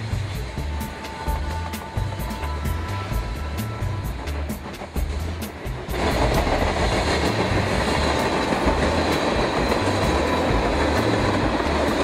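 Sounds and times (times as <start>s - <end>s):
freight train rumbling past: 0.0s - 12.0s
wheels clicking over rail joints: 0.0s - 12.0s.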